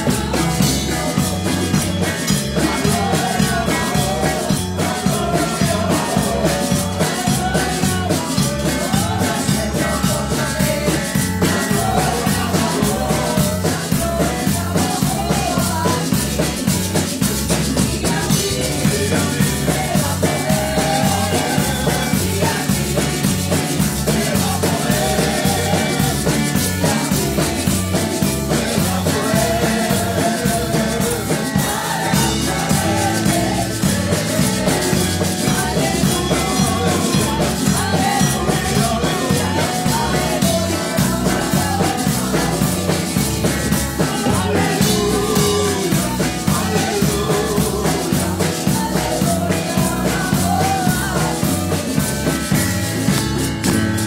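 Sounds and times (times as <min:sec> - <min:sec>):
woman singing into a microphone: 0:00.0 - 0:52.6
drum kit beat: 0:00.0 - 0:54.0
electric bass guitar: 0:00.0 - 0:54.0.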